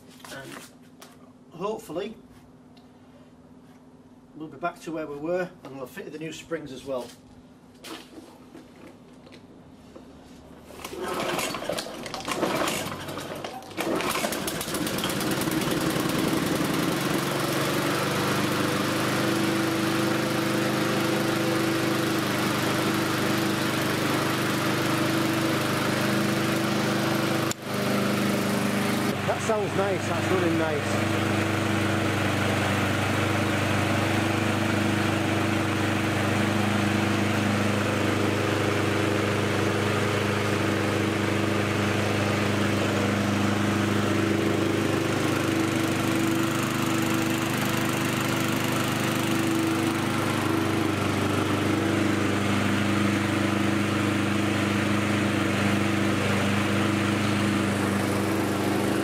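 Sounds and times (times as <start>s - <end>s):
lawnmower engine running: 10.7s - 59.0s.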